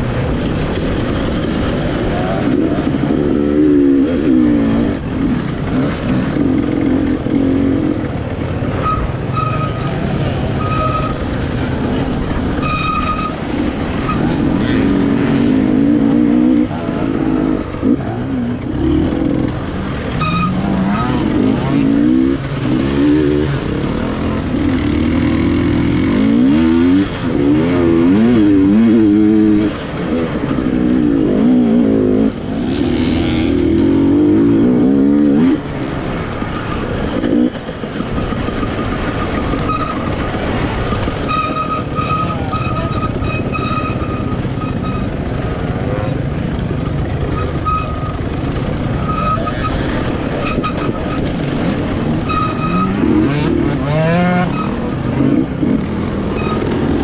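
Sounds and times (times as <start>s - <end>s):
dirt bike engine revving: 1.2s - 37.6s, 38.3s - 57.0s.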